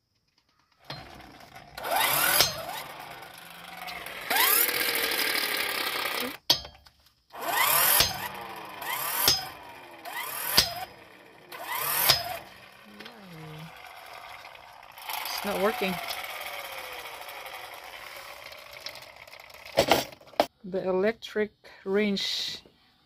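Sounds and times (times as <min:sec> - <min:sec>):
electric wrench whirring: 0:00.8 - 0:06.5, 0:07.3 - 0:20.5.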